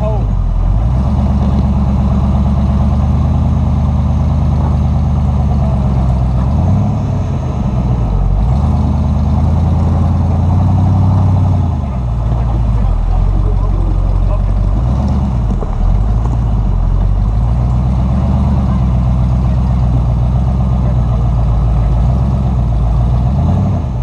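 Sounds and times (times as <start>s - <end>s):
off-road vehicle engine at low revs: 0.0s - 24.0s.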